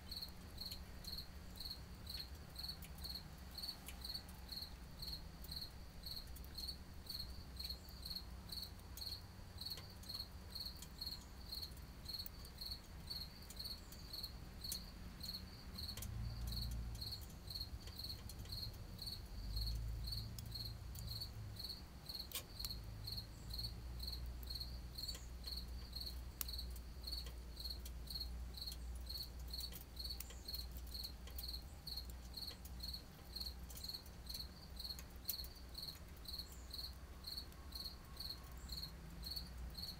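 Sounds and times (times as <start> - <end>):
cricket chirping: 0.0 - 39.9
twigs crackling in a stove: 0.0 - 39.9.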